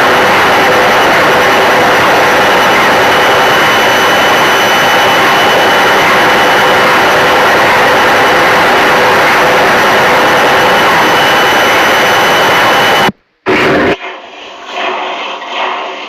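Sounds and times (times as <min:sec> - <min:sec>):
high whine: 0:00.0 - 0:16.0.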